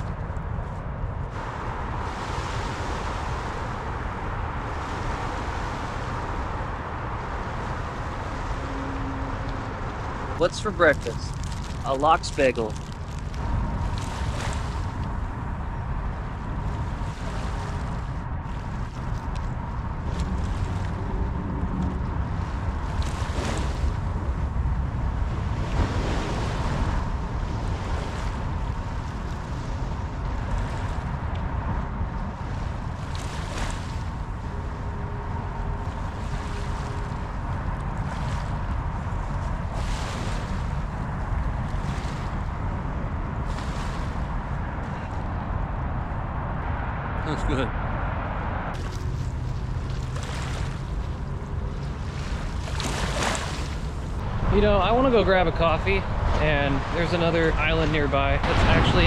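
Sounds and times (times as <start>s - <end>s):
wind rumbling on microphone: 0.0s - 59.0s
waves washing onto beach: 1.3s - 46.2s, 48.7s - 59.0s.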